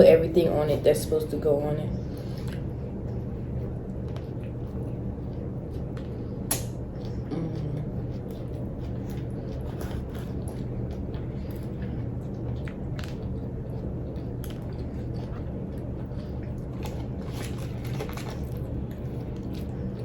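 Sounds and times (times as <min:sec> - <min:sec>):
steady low hum: 0:00.0 - 0:20.0
chewing mouth clicks and smacks: 0:03.9 - 0:20.0.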